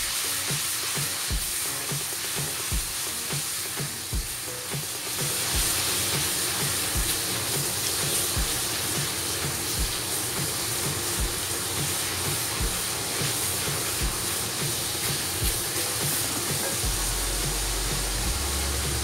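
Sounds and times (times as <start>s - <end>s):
spice paste sizzling in oil: 0.0s - 19.0s.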